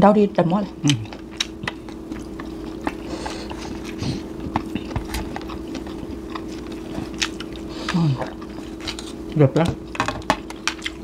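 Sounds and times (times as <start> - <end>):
low hum: 0.0 - 11.0
chewing and mouth noises: 0.4 - 11.0.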